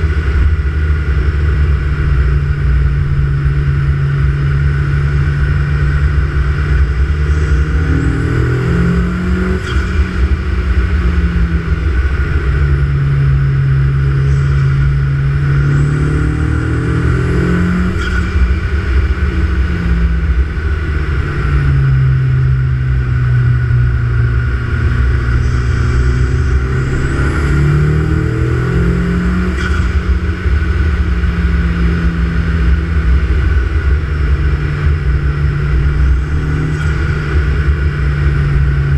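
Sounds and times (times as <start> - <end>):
turbocharged car engine revving: 0.0 - 38.9.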